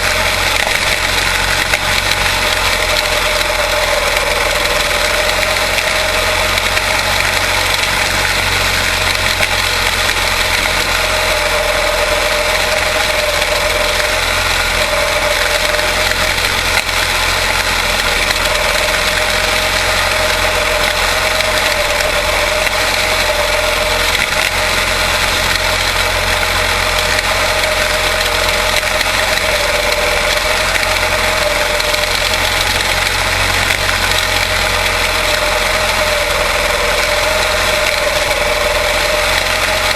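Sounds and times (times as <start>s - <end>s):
small race car engines running: 0.0s - 39.9s.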